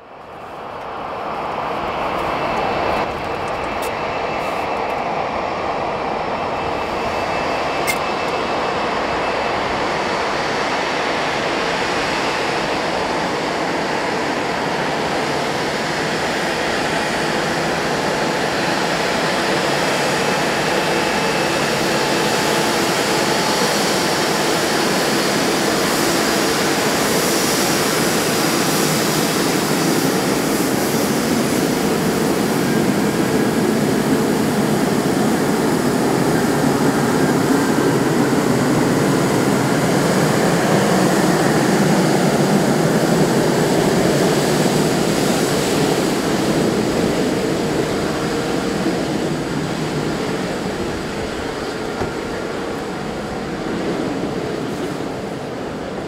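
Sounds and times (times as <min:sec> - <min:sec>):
jet engines hissing and whining: 0:00.0 - 0:56.0.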